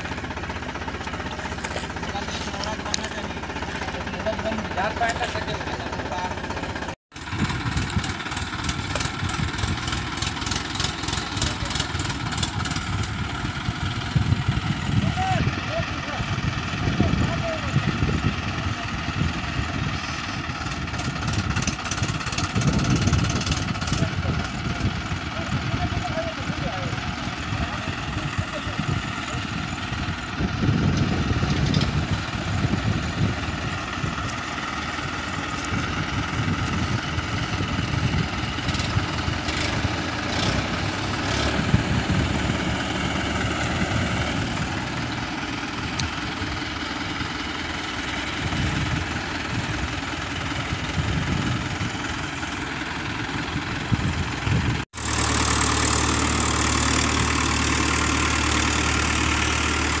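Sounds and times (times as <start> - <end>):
tractor engines straining: 0.0 - 60.0.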